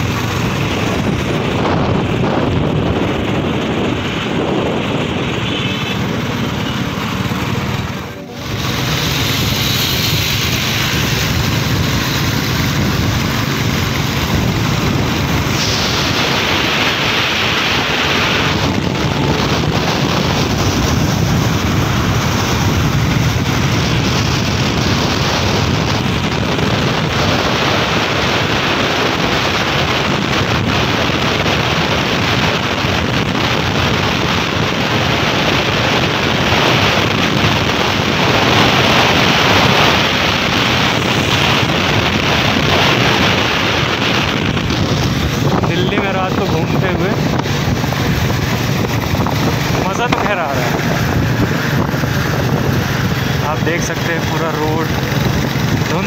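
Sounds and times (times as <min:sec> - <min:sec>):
motorcycle engine: 0:00.0 - 0:56.0
road noise: 0:00.0 - 0:56.0
wind buffeting the microphone: 0:00.0 - 0:56.0.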